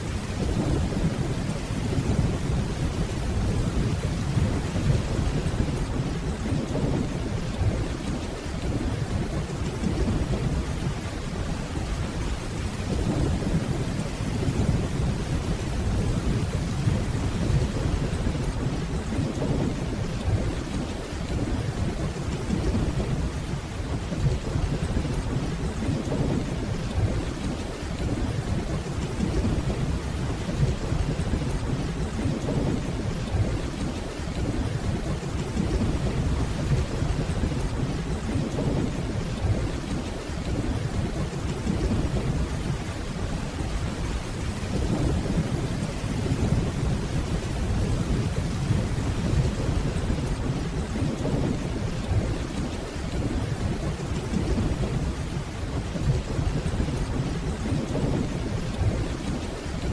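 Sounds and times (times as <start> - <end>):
distant rolling thunder: 0.0 - 59.9
steady rainfall: 0.0 - 59.9.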